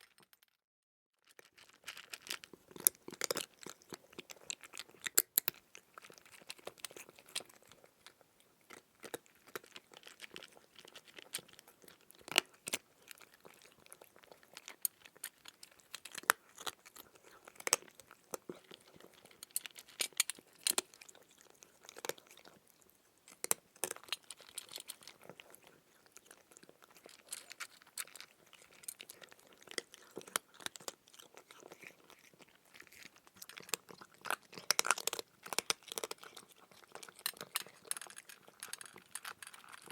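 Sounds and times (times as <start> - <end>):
crunchy chewing: 1.3 - 39.9.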